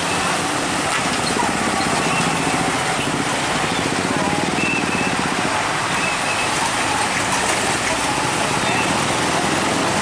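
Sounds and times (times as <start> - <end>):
road traffic: 0.0 - 10.0
truck engines running: 0.0 - 10.0.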